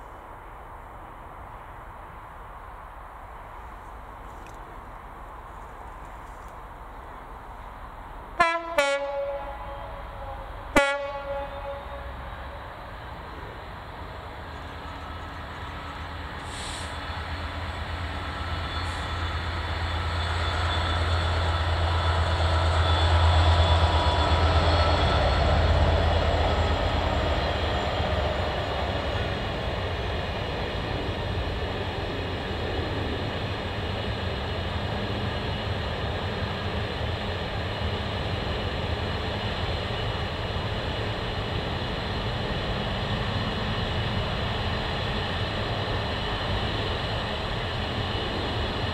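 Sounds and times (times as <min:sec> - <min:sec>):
diesel locomotive engine droning: 0:00.0 - 0:48.9.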